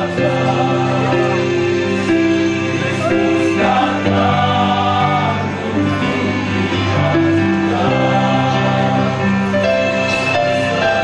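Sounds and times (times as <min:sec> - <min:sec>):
male choir singing in harmony: 0:00.0 - 0:11.0.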